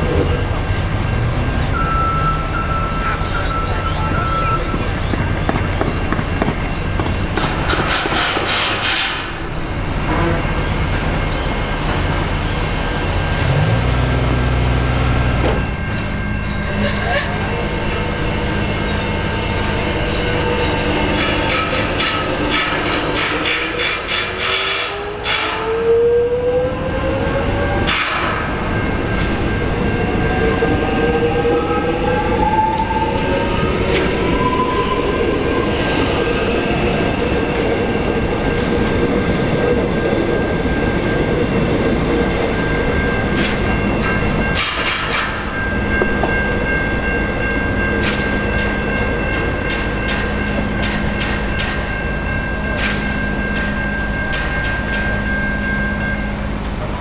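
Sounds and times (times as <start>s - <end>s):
traction motors whining: 0.0s - 56.9s
electric train humming: 0.0s - 57.0s.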